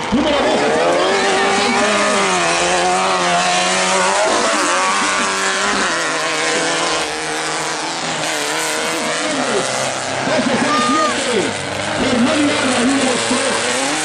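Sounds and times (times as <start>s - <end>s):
racing buggy engines revving: 0.0s - 14.0s.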